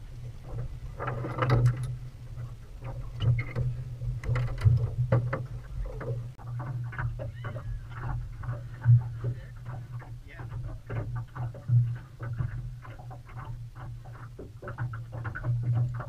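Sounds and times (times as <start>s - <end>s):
knocks clicks and rattles in boat: 0.0s - 16.0s.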